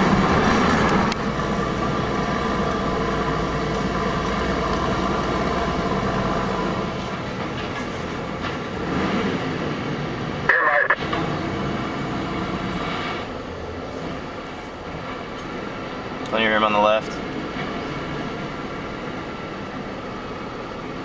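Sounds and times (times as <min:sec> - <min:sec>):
heavy truck diesel rumble: 0:00.0 - 0:21.0.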